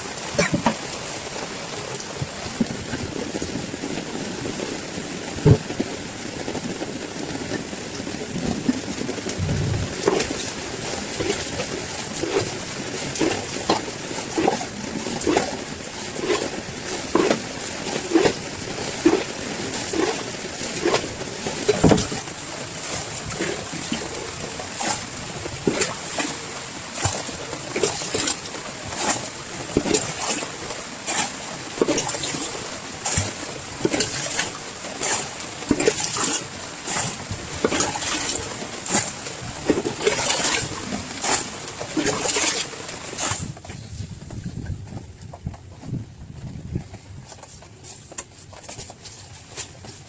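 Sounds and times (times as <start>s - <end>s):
water splashing and plopping: 0.0s - 43.6s
steady rain: 0.0s - 44.7s.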